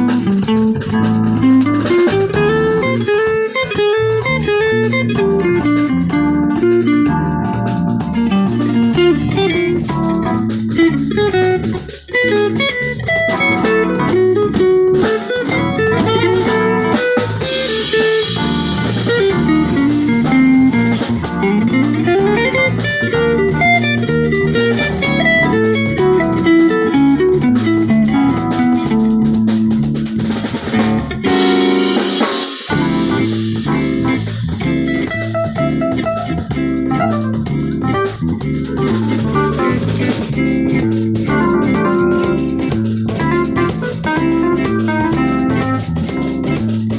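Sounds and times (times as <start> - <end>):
drum kit: 0.0 - 46.9
guitar: 0.0 - 46.9.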